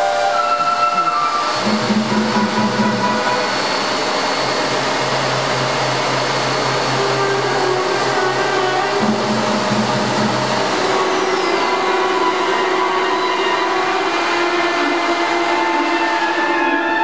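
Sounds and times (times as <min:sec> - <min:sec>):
vacuum cleaner motors whooshing: 0:00.0 - 0:17.0
wind band holding low notes: 0:00.0 - 0:17.0.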